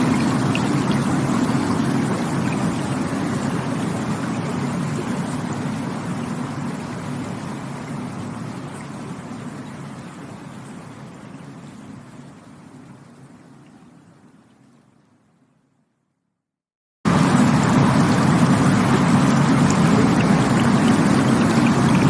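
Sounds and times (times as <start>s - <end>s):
rushing stream water: 0.0s - 15.0s, 17.1s - 22.0s.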